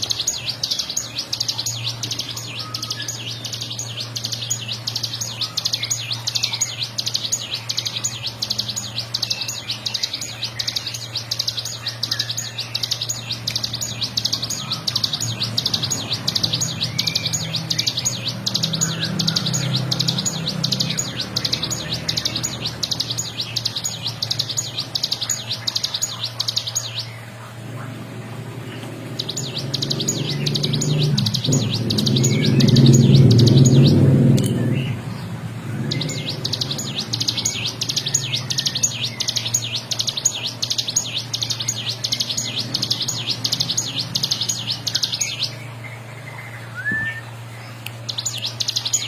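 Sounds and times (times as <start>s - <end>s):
bird singing rattling trill: 0.0s - 49.0s
steady low hum: 0.0s - 49.0s.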